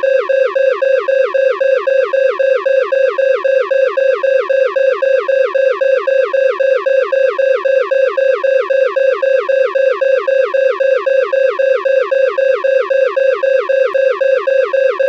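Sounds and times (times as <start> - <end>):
rapid electronic alarm beeps: 0.0 - 15.0.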